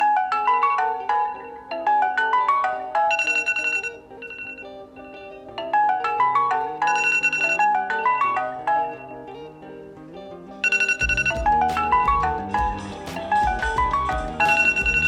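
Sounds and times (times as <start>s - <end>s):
melodic ringtone: 0.0s - 9.9s, 10.6s - 15.0s.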